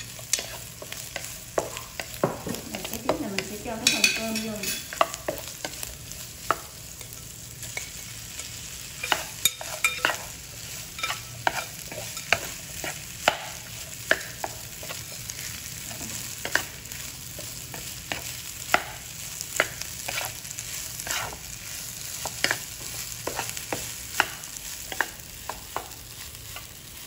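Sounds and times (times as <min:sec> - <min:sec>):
rice sizzling in a pan: 0:00.0 - 0:27.0
wooden spatula scraping a pan: 0:00.0 - 0:27.0.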